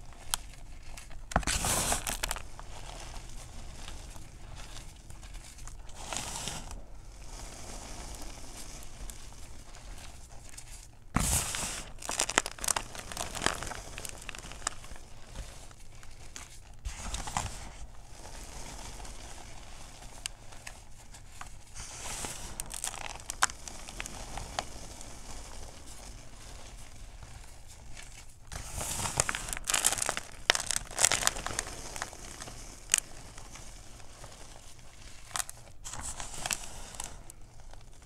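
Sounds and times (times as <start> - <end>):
fingers crunching powder: 0.0 - 38.0.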